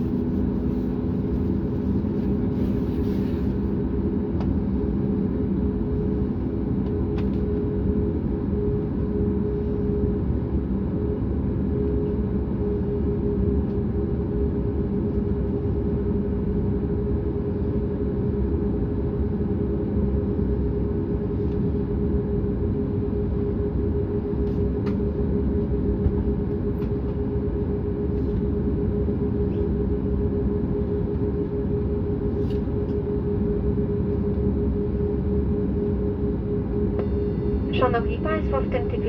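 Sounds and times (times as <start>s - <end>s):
jet engine rumble in cabin: 0.0s - 39.0s.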